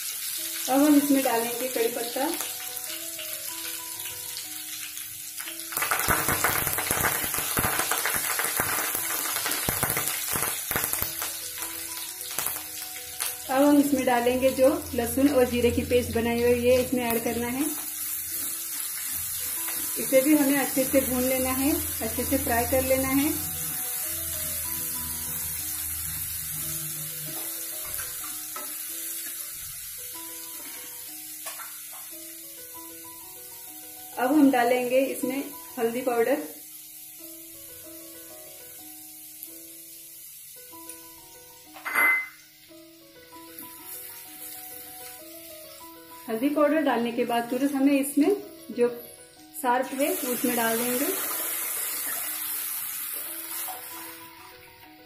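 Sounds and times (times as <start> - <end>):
leaves sizzling in hot oil: 0.0 - 55.0
soft background music: 0.0 - 55.0.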